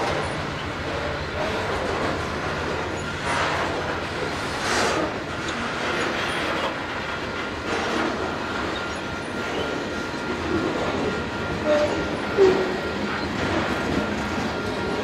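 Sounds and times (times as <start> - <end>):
train wheels rumbling and clacking: 0.0 - 15.0
train wheels squealing: 0.1 - 15.0.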